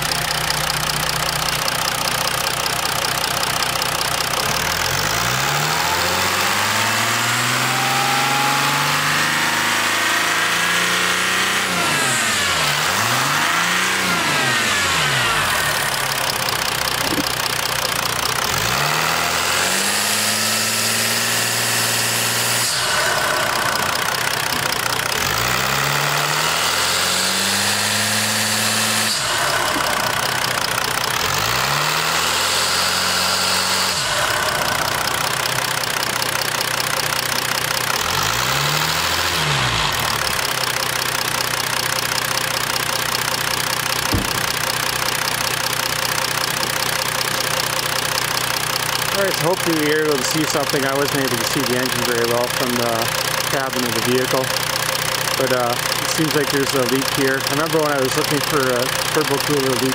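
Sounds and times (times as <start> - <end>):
diesel engine idling and revving: 0.0 - 59.9.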